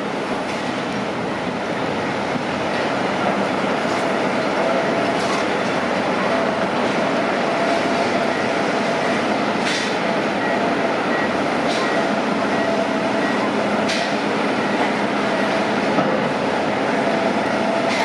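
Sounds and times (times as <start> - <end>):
heavy construction machinery running: 0.0 - 18.0.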